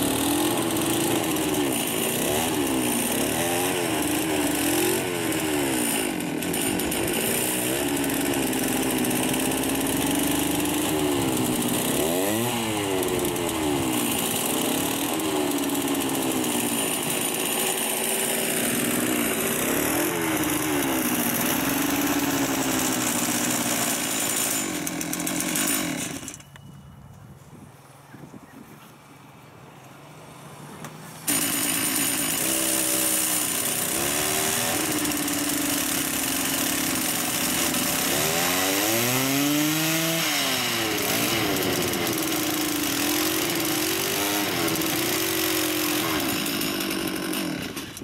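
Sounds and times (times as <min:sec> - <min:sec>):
small petrol engine revving: 0:00.0 - 0:26.4, 0:31.2 - 0:48.0.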